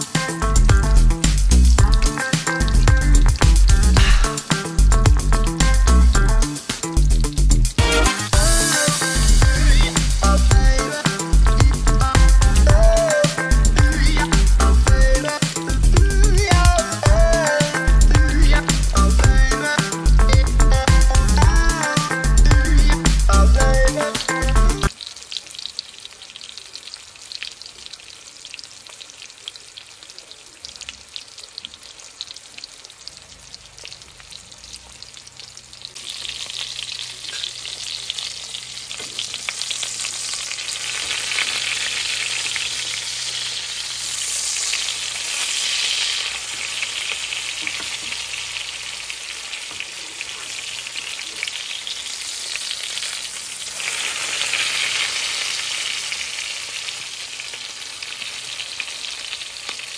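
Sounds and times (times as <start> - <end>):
chicken sizzling in a skillet: 0.0 - 59.9.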